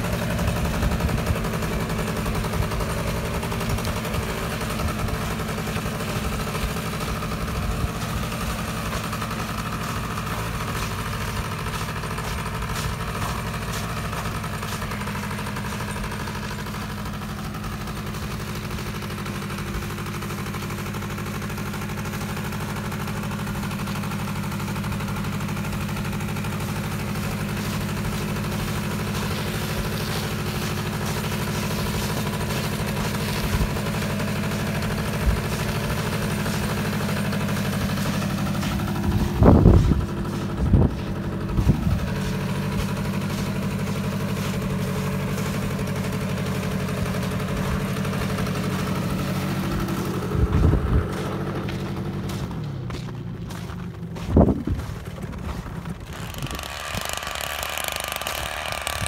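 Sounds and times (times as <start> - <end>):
atv engine under load: 0.0 - 59.0.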